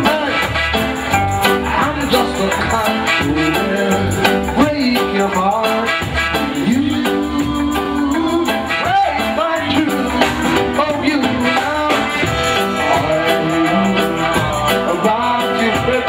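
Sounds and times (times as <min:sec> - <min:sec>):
man singing: 0:00.0 - 0:16.0
reggae band playing: 0:00.0 - 0:16.0.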